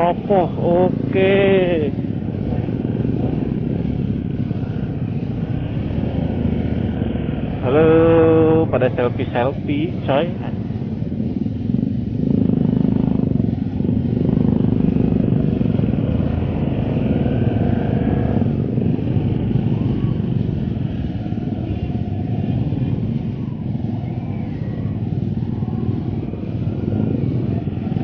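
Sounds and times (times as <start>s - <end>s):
motorcycle engines running: 0.0s - 28.0s.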